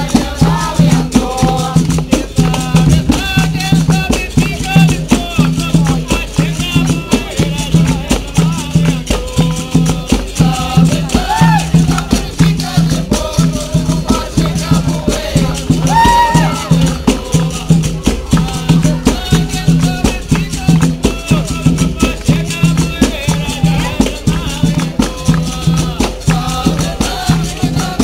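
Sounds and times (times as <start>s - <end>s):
hand drum beat: 0.0s - 28.0s
person singing: 0.0s - 28.0s
shaker rattling: 0.0s - 28.0s.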